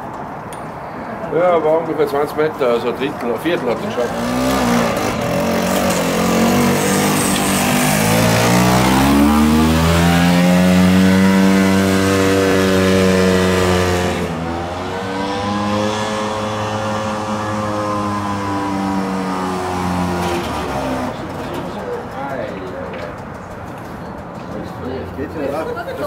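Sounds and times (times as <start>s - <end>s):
scooter engine under heavy load: 2.6s - 26.0s.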